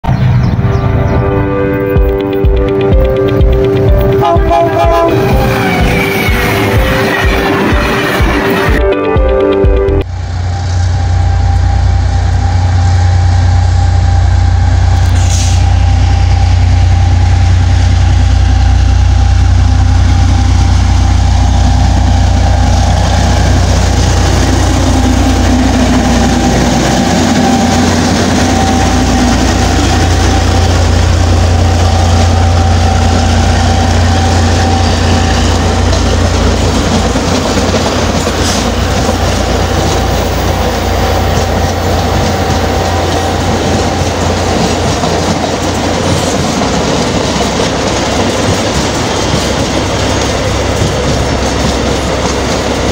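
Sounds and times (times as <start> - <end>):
diesel locomotive engine: 0.0 - 52.9
freight wagons rumbling on rails: 1.8 - 52.9.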